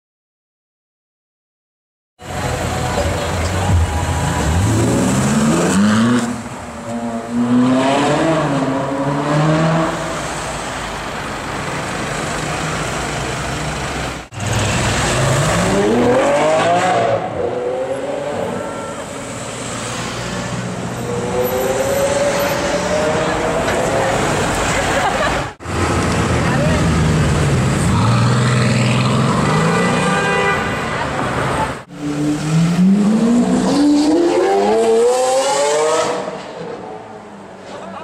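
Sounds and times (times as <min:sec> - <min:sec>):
street traffic: 0:02.2 - 0:38.0.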